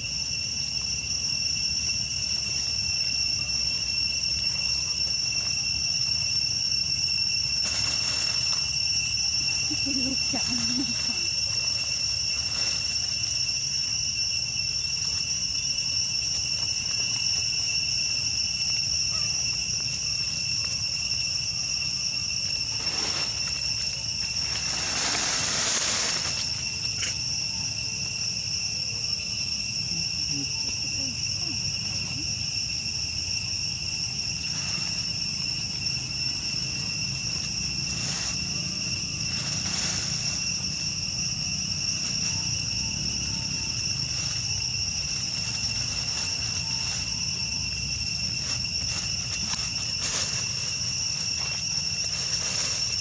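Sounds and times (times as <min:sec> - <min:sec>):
insect chorus drone: 0:00.0 - 0:53.0.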